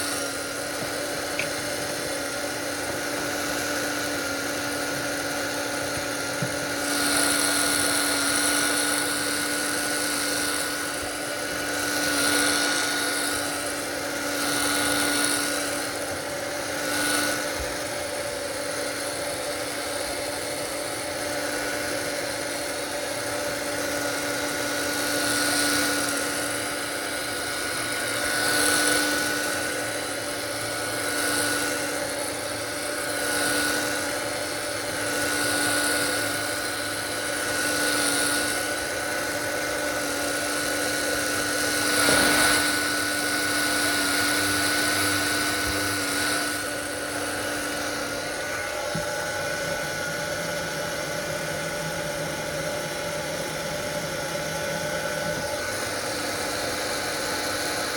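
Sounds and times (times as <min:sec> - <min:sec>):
small electric motor whining: 0:00.0 - 0:57.9.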